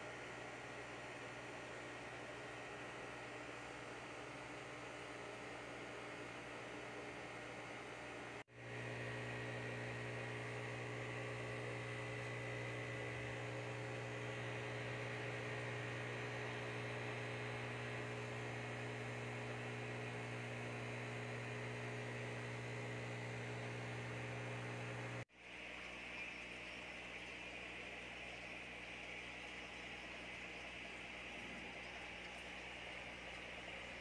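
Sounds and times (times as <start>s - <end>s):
air pump humming: 0.6s - 34.0s.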